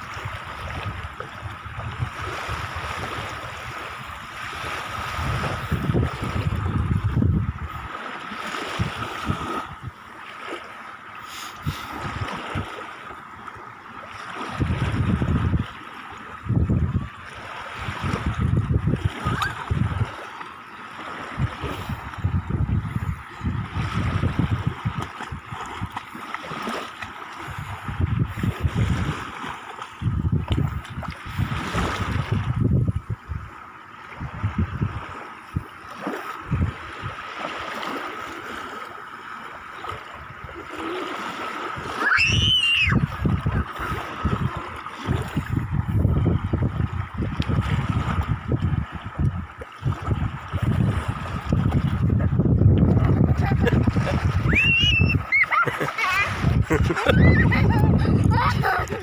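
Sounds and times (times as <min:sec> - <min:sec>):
wind buffeting microphone: 0:00.0 - 0:10.1, 0:11.6 - 0:12.8, 0:14.2 - 0:20.4, 0:21.0 - 0:38.6, 0:41.6 - 0:59.0
small waves lapping on shore: 0:00.0 - 0:59.0
water splashing: 0:00.0 - 0:59.0.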